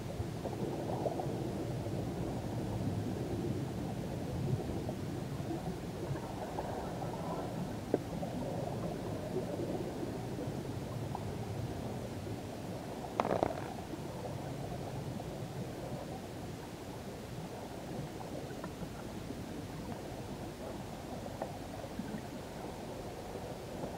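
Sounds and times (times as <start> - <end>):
underwater rumble: 0.1 - 23.9.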